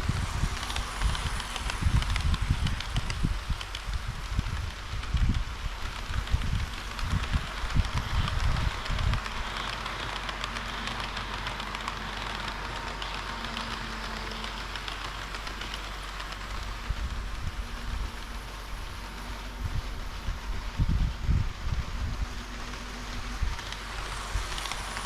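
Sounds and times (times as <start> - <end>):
model train wheels on rail: 0.0 - 25.0.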